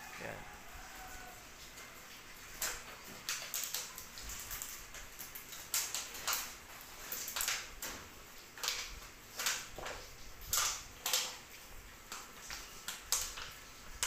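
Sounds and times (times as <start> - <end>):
plastic bottle crinkling: 2.1 - 14.0.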